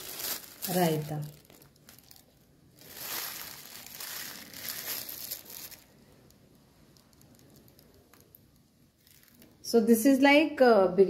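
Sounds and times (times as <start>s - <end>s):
plastic pouches crinkling: 0.0s - 9.6s.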